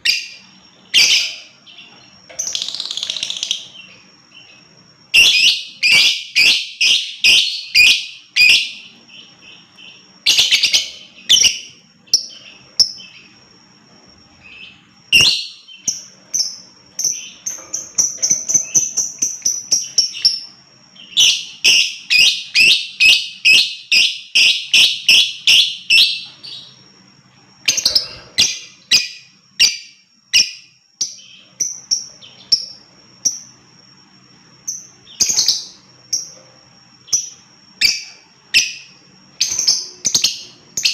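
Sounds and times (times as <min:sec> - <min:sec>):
lovebird chirping: 0:00.0 - 0:33.7, 0:34.3 - 0:36.4, 0:37.0 - 0:40.9.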